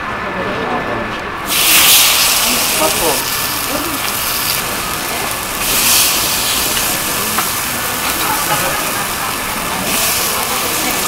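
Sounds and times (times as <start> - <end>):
batter sizzling on griddle: 1.5 - 11.0.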